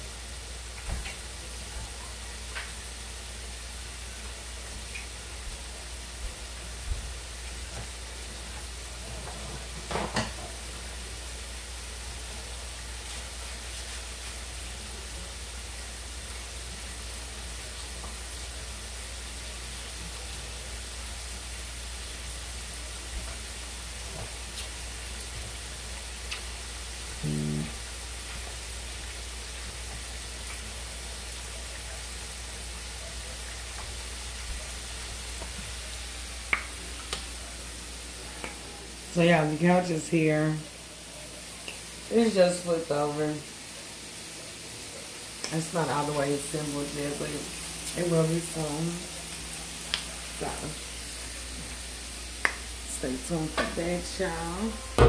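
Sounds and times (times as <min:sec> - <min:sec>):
food sizzling in hot oil: 0:00.0 - 0:55.0.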